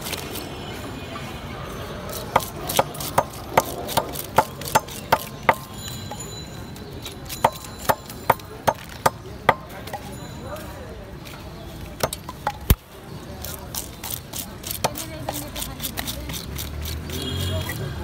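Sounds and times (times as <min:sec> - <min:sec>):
market murmur: 0:00.0 - 0:18.0.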